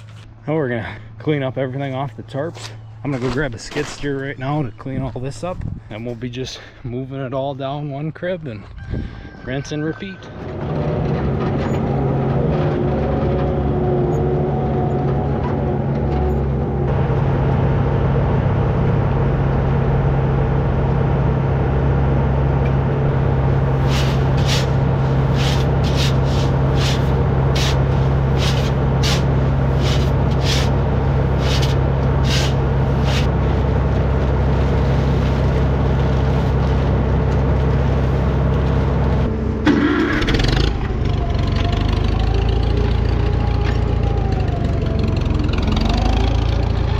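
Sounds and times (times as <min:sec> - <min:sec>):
farm engine running: 0:09.1 - 0:46.9.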